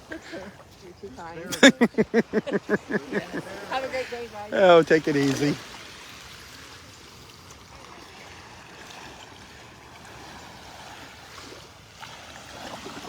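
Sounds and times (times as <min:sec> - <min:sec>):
small waves washing on shore: 0:00.0 - 0:13.0.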